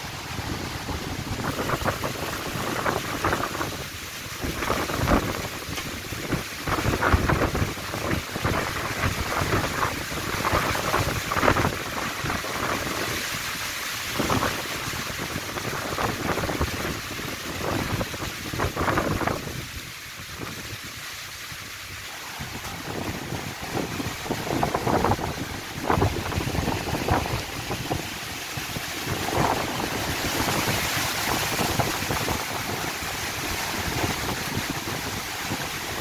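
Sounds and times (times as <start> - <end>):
wind buffeting microphone: 0.0 - 13.3, 14.1 - 21.0, 21.6 - 36.0
wind thrashing tree leaves: 0.0 - 36.0.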